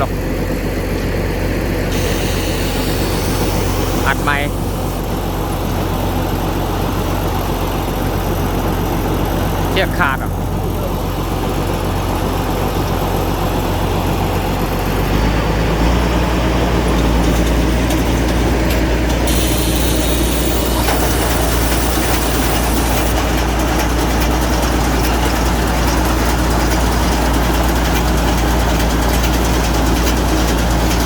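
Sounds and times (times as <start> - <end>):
baler engine droning: 0.0 - 31.0.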